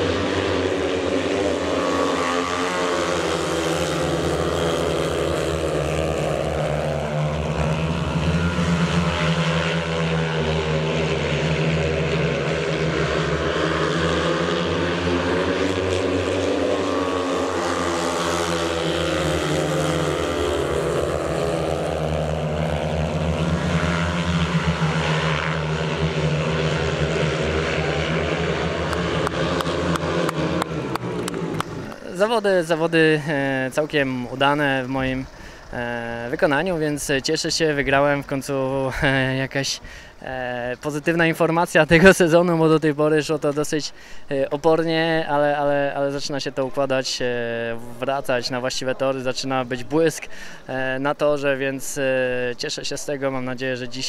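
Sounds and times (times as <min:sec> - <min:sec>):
motorcycles racing: 0:00.0 - 0:44.0.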